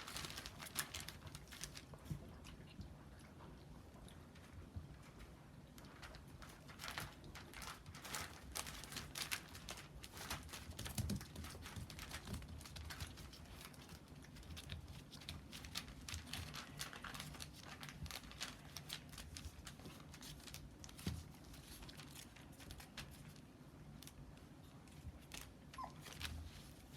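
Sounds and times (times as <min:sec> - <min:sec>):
puppies rustling: 0:00.0 - 0:26.9.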